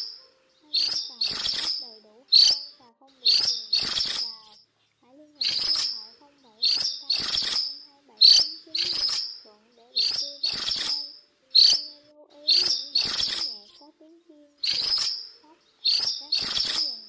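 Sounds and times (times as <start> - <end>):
minivet flock calling: 0.0 - 17.0.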